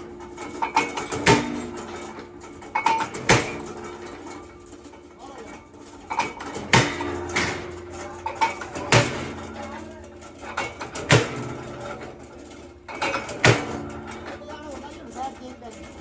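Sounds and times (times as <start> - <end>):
power press metallic clank: 0.0 - 14.4
press humming: 0.0 - 16.0.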